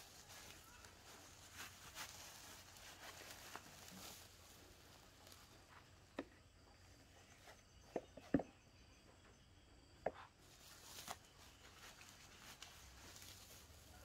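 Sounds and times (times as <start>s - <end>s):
rustling of coir: 0.0s - 8.6s, 10.0s - 14.0s.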